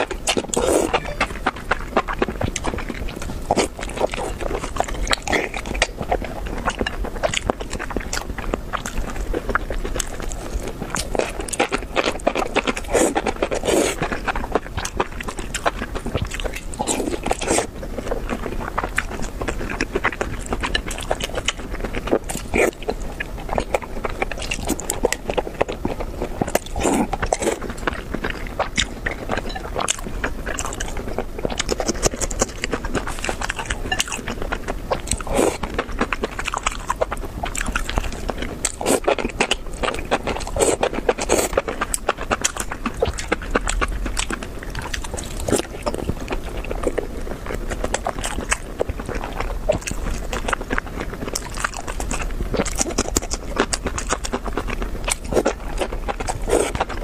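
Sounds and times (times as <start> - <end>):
wet chewing and mouth smacks: 0.0 - 57.0.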